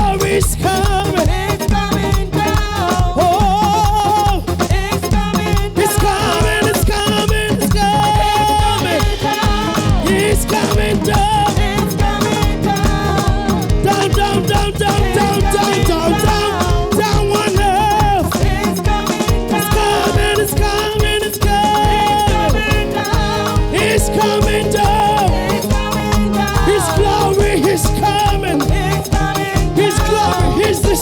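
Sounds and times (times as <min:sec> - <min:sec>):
upbeat instrumental praise music: 0:00.0 - 0:31.0.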